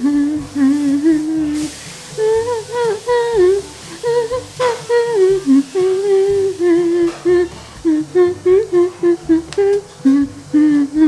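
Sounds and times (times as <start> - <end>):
bass notes: 0.0 - 11.0
woman humming a tune: 0.0 - 11.0.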